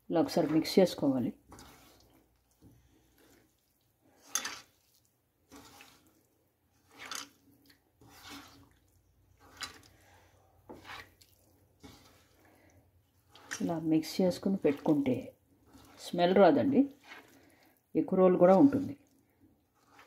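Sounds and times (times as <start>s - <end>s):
wet prawns squishing in a pan: 0.1s - 20.0s.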